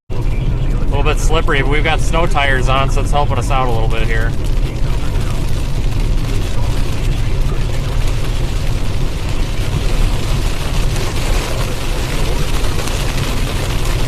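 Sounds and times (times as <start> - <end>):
car driving over hail: 1.4 - 14.0.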